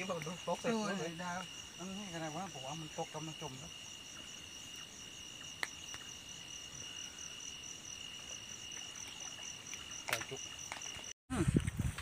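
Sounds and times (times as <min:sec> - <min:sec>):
crickets trilling: 0:00.0 - 0:11.2.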